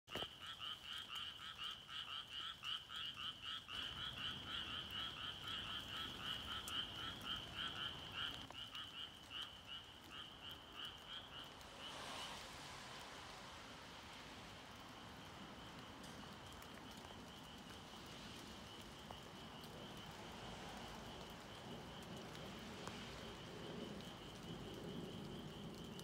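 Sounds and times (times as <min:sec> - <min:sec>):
frogs croaking: 0:00.1 - 0:26.0.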